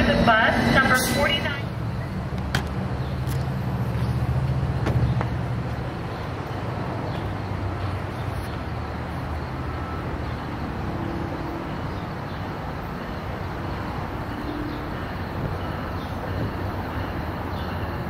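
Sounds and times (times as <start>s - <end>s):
low engine rumble: 0.0s - 17.8s.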